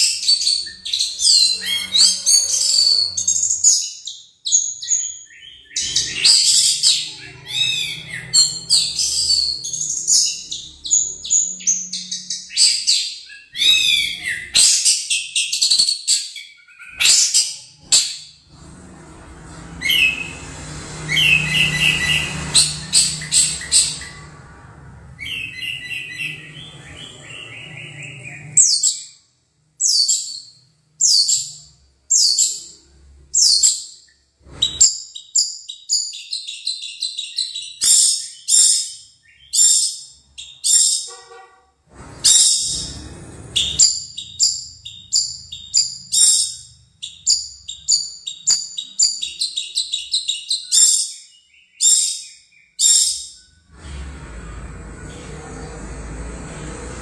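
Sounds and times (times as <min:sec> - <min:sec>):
bird singing: 0:00.0 - 0:18.4, 0:21.0 - 0:24.4, 0:25.1 - 0:41.1, 0:42.3 - 0:53.7.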